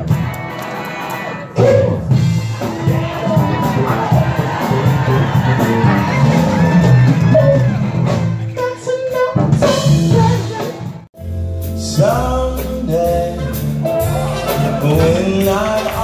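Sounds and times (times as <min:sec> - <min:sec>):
band with keyboards and drums: 0:00.0 - 0:16.0
steady bass line: 0:01.6 - 0:16.0.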